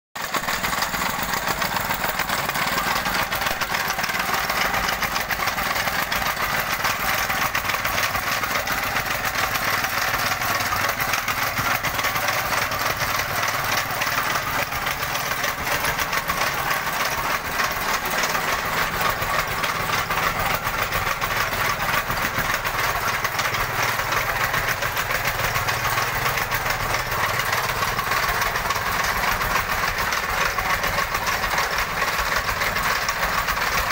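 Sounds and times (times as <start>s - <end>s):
tamping rammer pounding gravel: 0.2s - 33.9s.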